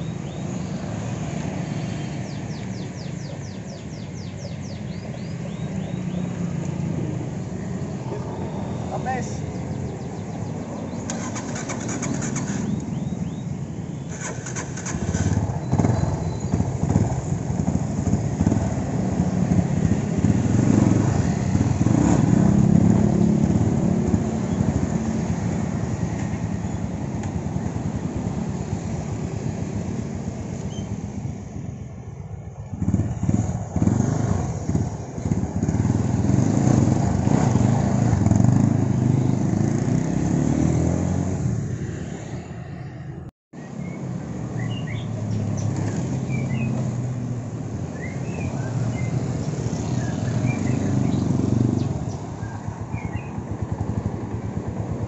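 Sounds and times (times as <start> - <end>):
motorcycles passing: 0.0 - 55.0
street traffic: 0.0 - 55.0
motorcycle engine running: 0.2 - 41.0, 45.0 - 55.0.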